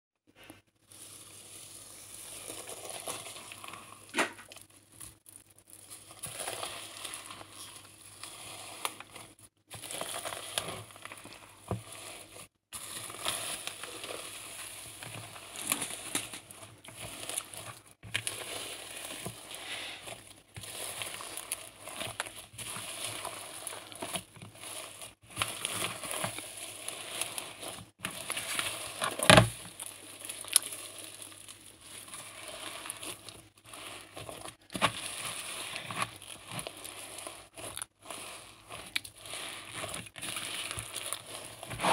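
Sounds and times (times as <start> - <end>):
slime crackling and popping: 0.8 - 41.9.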